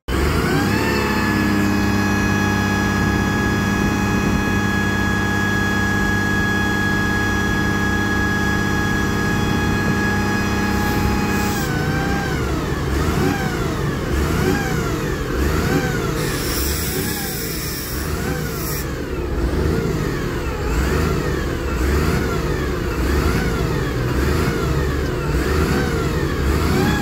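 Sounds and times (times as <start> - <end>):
bus diesel engine revving: 0.1 - 27.0.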